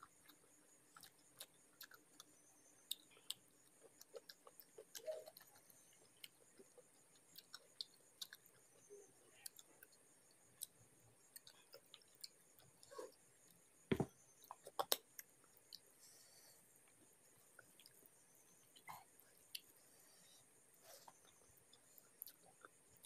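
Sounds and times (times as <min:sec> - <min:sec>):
soft chewing: 0:00.0 - 0:23.0.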